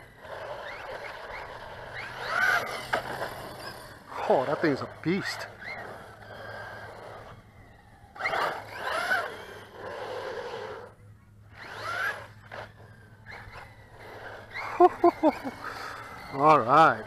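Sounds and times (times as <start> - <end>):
rc car motor whining: 0.0 - 17.0.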